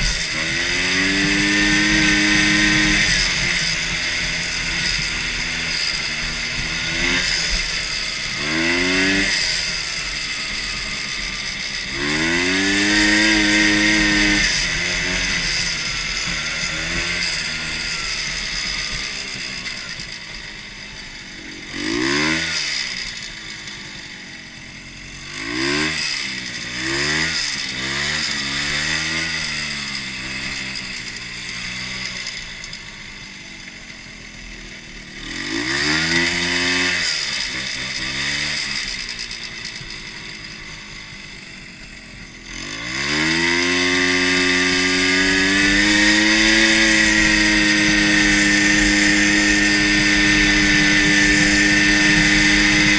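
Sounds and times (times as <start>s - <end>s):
engine revving: 0.0s - 52.9s.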